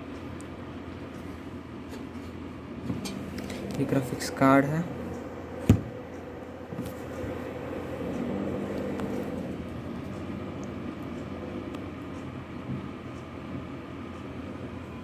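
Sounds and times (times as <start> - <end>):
computer fans humming: 0.0 - 15.0.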